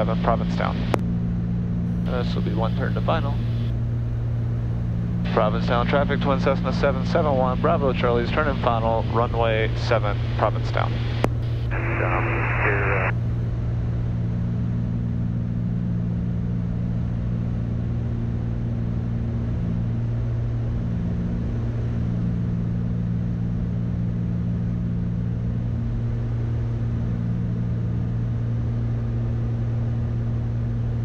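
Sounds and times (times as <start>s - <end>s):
propeller plane engines droning: 0.0s - 31.0s.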